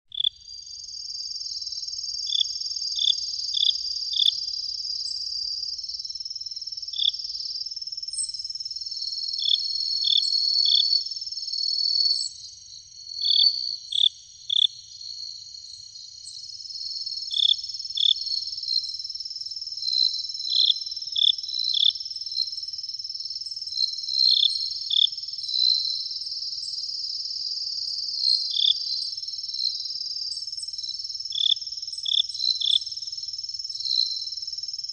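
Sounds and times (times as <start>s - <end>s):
insect chirps: 0.1s - 34.9s
insects trilling: 0.1s - 34.9s.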